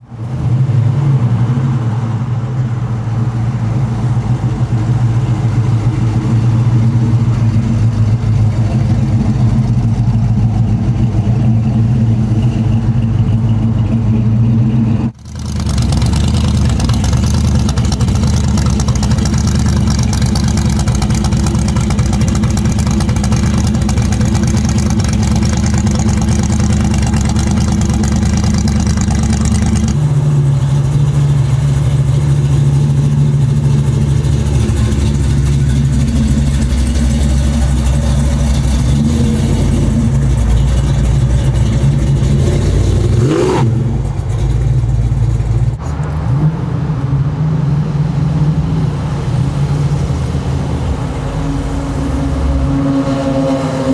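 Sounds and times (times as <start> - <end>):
car engines idling: 0.0 - 53.9
rough rasping engine: 0.0 - 53.9.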